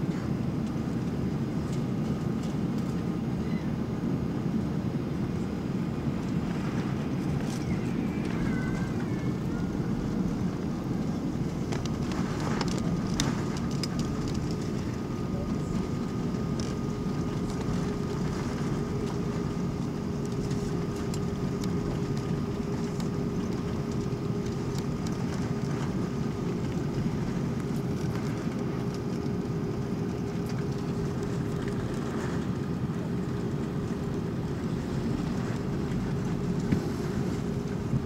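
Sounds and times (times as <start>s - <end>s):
airplane cabin engine rumble: 0.0s - 38.0s.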